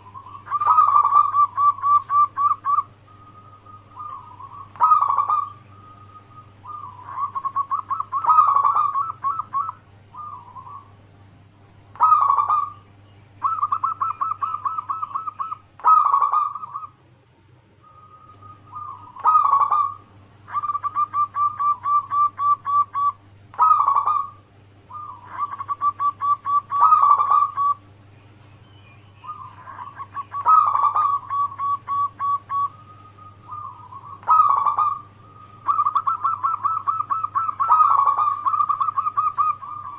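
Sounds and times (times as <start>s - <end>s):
dove cooing with rolling trill: 0.0s - 11.2s, 11.8s - 17.0s, 17.8s - 39.9s.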